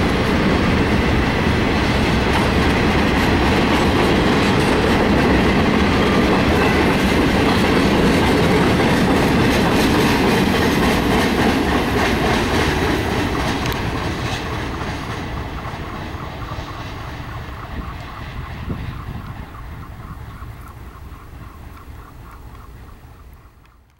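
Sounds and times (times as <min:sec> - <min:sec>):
freight train rolling past: 0:00.0 - 0:23.9
wheels clicking over rail joints: 0:00.0 - 0:23.9.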